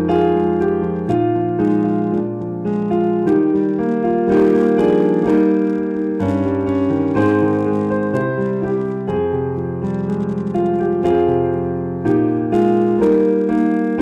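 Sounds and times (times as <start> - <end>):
piano chords: 0.0 - 14.0
sustained bass notes: 0.0 - 14.0.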